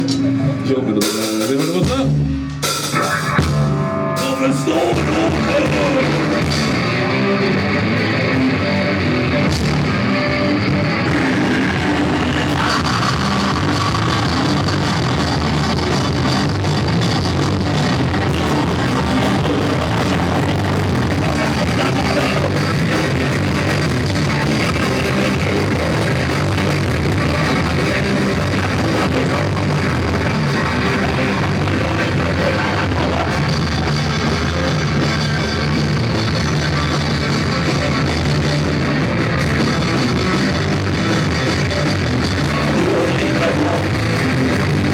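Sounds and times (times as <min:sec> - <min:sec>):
drums: 0:00.0 - 0:44.9
electric guitar: 0:00.0 - 0:44.9
rock band playing live: 0:00.0 - 0:44.9.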